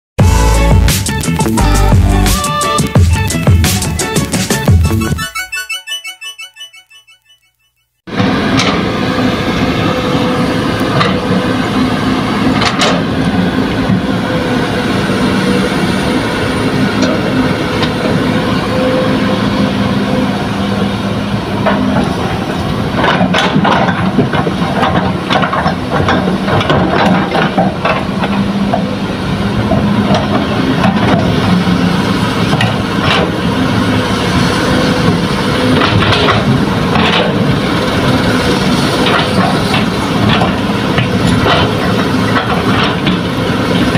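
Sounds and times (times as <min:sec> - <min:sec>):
excavator diesel engine running: 0:00.2 - 0:05.5, 0:08.1 - 0:43.9.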